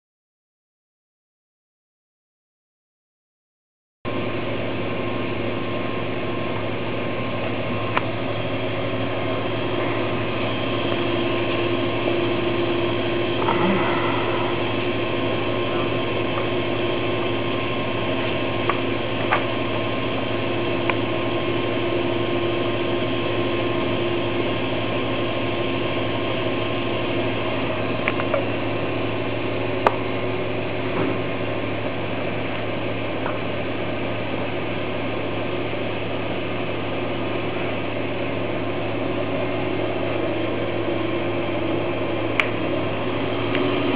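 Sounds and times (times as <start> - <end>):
press machine humming: 4.1 - 43.9.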